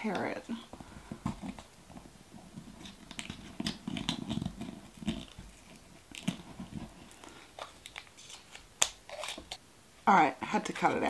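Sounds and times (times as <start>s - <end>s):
rustling handling noise: 0.7s - 9.6s.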